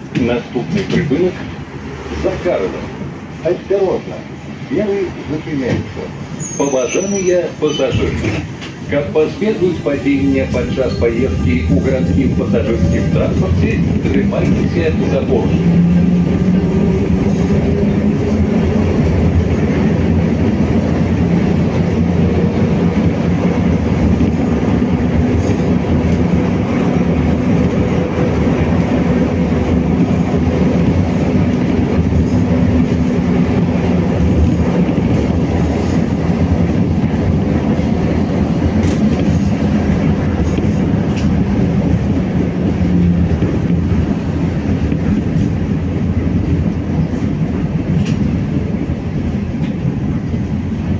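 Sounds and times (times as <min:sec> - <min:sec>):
tram wheels rumbling on rails: 0:00.0 - 0:50.9.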